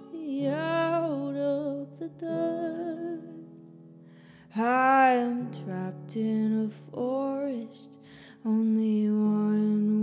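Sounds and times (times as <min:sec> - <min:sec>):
woman singing a held vowel: 0:00.0 - 0:03.5, 0:04.5 - 0:10.0.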